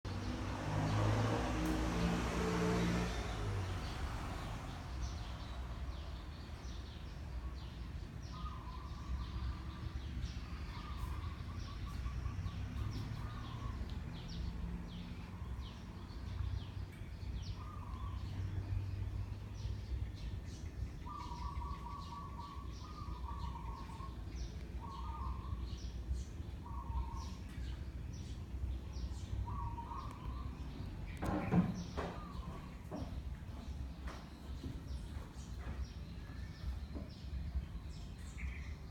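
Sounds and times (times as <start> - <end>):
birds trilling and chirping: 0.1 - 38.9.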